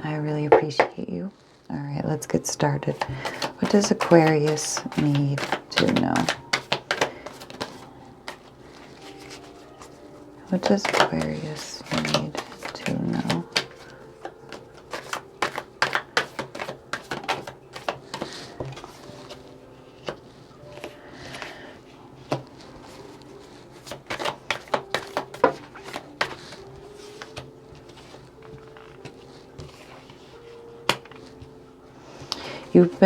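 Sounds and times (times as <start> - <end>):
cards being shuffled by hand: 2.8 - 21.5, 22.2 - 31.5.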